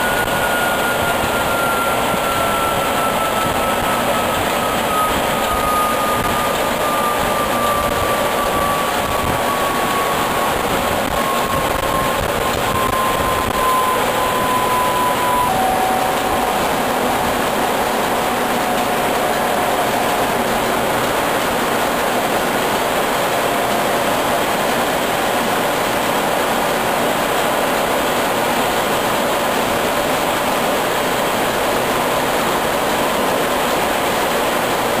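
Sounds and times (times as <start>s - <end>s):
marine diesel engine roaring: 0.0s - 35.0s
turbocharger whine: 0.0s - 35.0s.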